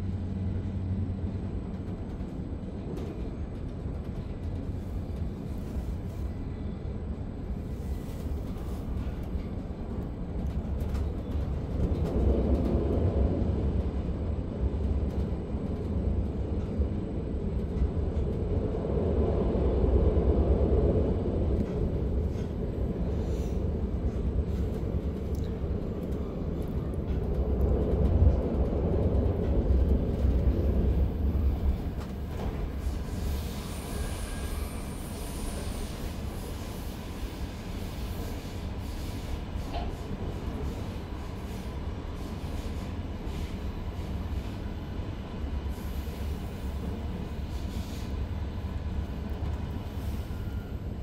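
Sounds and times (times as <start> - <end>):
train low rumble: 0.0 - 51.0.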